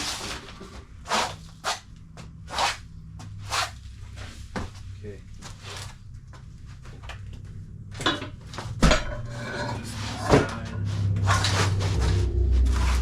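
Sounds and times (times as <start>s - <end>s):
rustling and scraping: 0.0s - 13.0s
steady low hum: 0.0s - 13.0s.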